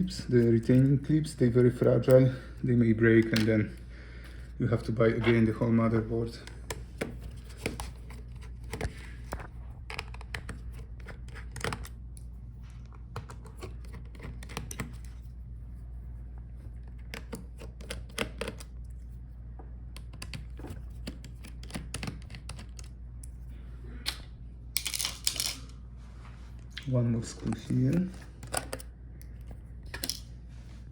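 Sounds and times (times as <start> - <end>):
low steady hum: 0.0 - 30.9.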